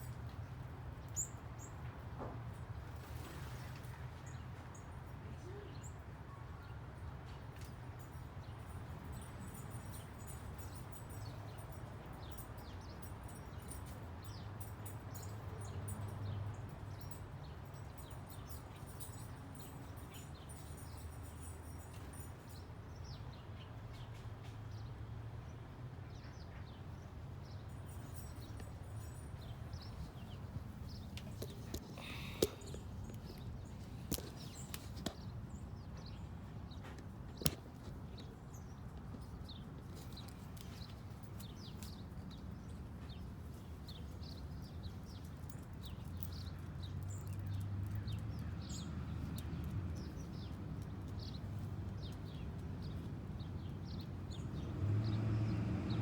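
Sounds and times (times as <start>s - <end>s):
small birds chirping: 0.0s - 1.8s, 4.2s - 56.0s.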